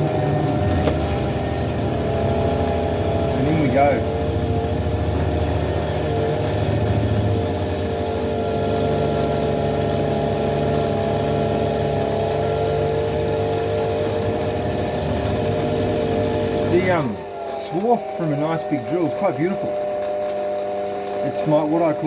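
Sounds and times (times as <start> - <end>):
drill cutting metal workpiece: 0.0 - 22.0
metal lathe humming: 0.0 - 22.0.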